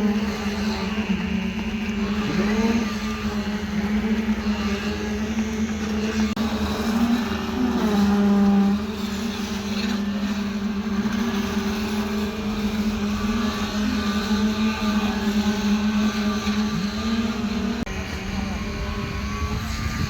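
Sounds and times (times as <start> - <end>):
motor humming steadily: 0.0 - 20.0.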